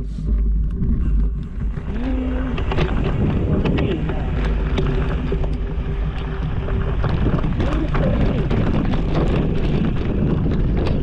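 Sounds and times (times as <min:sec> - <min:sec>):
steady low rumble: 0:00.0 - 0:11.0
wind buffeting microphone: 0:00.0 - 0:11.0
sharp clicks and rattles: 0:00.3 - 0:11.0.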